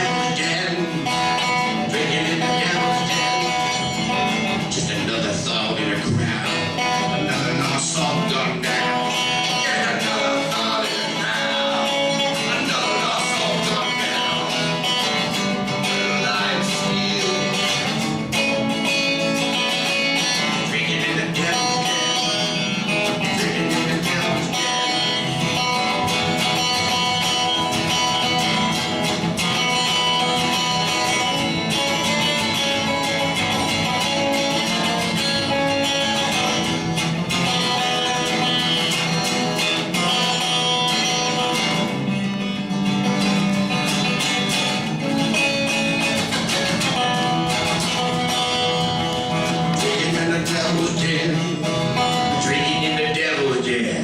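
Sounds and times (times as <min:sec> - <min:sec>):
strummed guitars in live band: 0:00.0 - 0:54.0.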